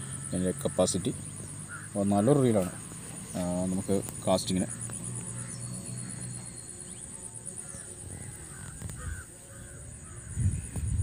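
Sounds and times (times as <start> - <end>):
crows cawing: 0.0 - 3.7, 4.5 - 6.8, 7.4 - 10.9
steady high-pitched whine: 0.0 - 11.0.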